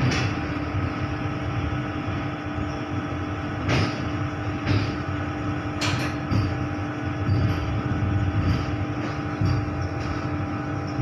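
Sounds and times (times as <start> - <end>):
electrical hum: 0.0 - 11.0
train cab low rumble: 0.0 - 11.0.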